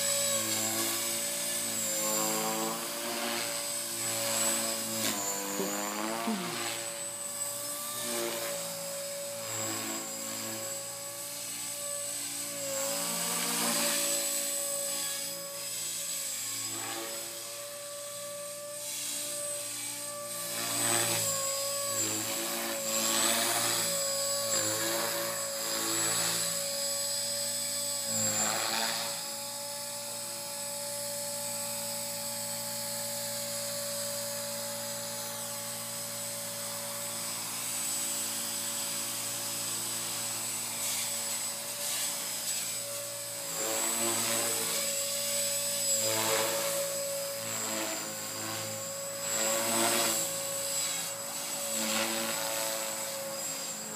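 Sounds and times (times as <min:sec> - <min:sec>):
high motor whine: 0:00.0 - 0:53.9.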